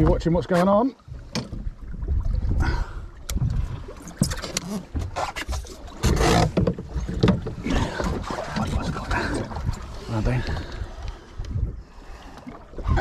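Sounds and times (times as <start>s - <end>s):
water washing against boat hull: 0.0s - 13.0s.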